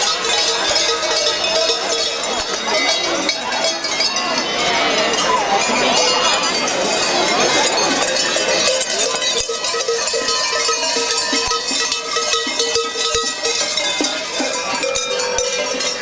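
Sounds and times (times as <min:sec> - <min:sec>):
large cowbells clanging: 0:00.0 - 0:16.0.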